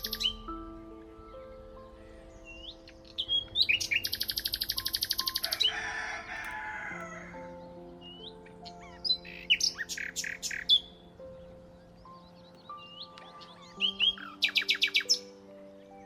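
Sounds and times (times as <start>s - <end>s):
birds singing: 0.0s - 16.0s
soft ambient music: 0.0s - 16.0s.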